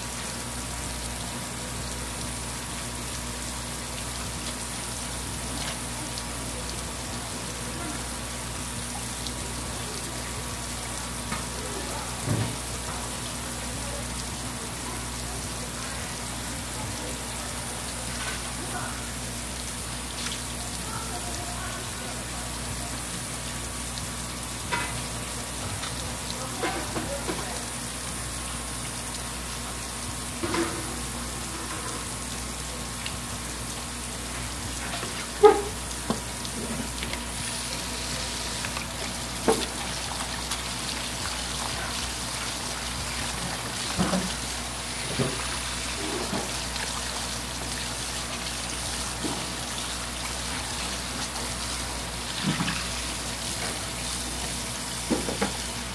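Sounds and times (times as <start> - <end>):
running water hiss: 0.0 - 55.9.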